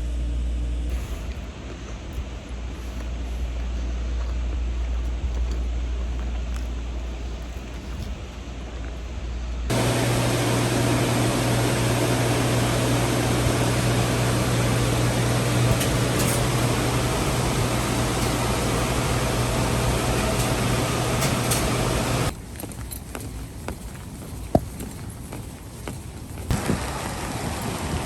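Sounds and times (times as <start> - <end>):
machine hum with fan rush: 0.0 - 28.0.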